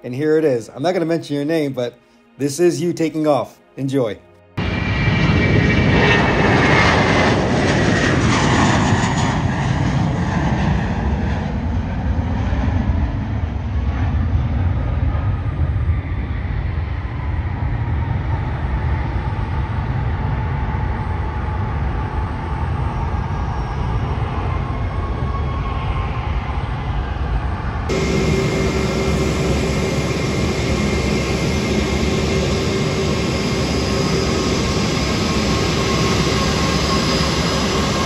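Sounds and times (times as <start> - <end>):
jet airliner taking off: 4.6 - 38.0.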